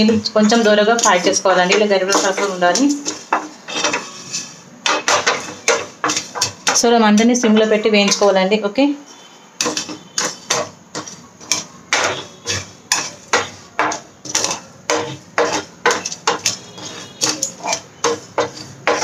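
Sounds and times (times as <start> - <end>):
wooden spoon scraping pan: 0.0 - 19.0.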